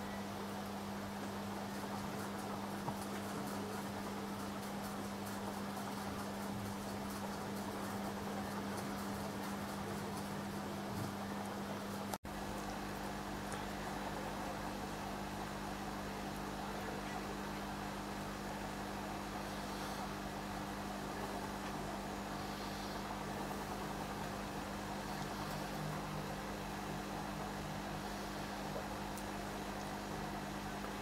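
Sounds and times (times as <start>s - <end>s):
electric hum: 0.0s - 31.0s.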